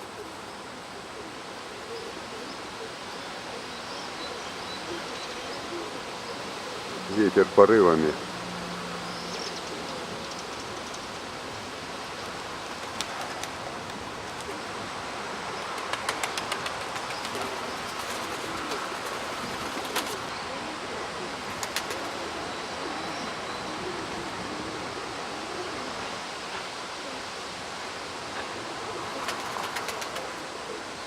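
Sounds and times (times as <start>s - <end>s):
pigeons cooing: 0.0s - 7.6s, 12.6s - 27.5s, 28.1s - 31.0s.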